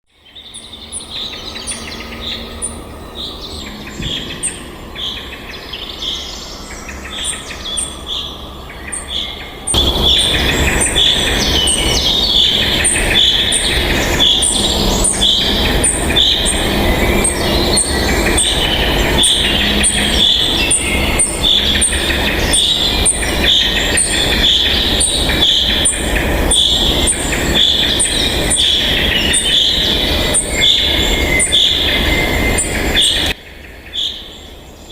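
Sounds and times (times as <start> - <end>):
loud steady rushing noise: 0.1 - 33.4
high chirping bird calls: 0.1 - 34.3.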